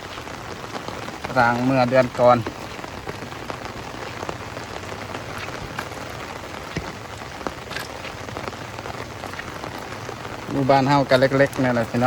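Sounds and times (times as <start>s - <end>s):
sharp raindrops striking nearby: 0.0s - 12.0s
steady downpour of rain: 0.0s - 12.0s.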